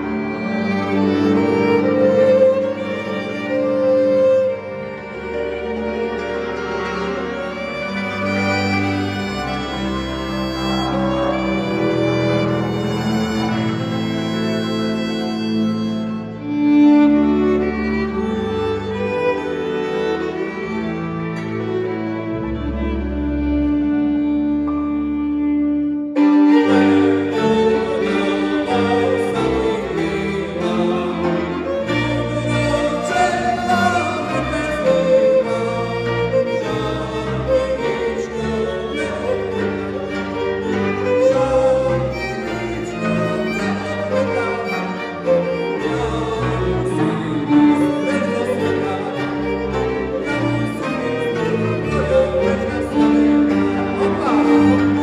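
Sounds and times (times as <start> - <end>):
folk string band playing: 0.0 - 55.0.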